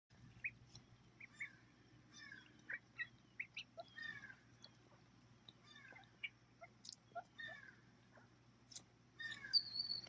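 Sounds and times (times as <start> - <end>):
ducklings peeping: 0.2 - 10.0.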